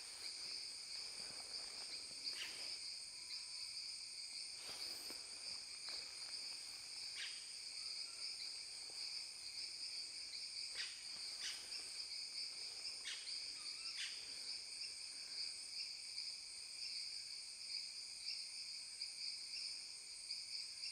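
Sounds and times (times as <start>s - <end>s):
insects droning: 0.0s - 20.9s.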